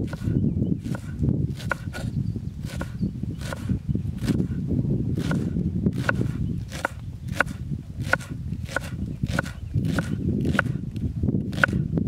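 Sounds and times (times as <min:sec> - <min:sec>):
knife chopping on wooden board: 0:00.0 - 0:04.6, 0:05.2 - 0:10.8, 0:11.5 - 0:11.8.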